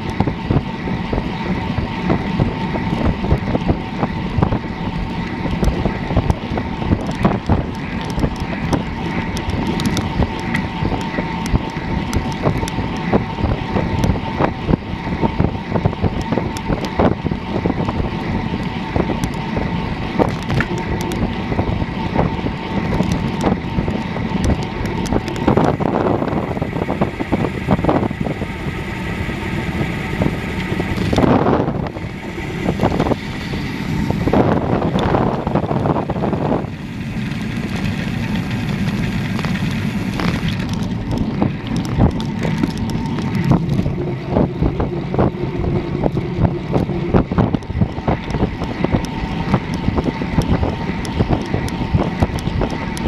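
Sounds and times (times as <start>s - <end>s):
bike rattling and knocking: 0.0s - 53.0s
bike tyres rolling on asphalt: 0.0s - 53.0s
wind rushing over microphone: 0.0s - 53.0s.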